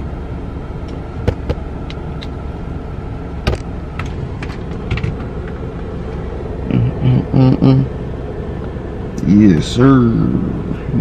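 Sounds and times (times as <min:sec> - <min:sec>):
car idling inside cabin: 0:00.0 - 0:11.0.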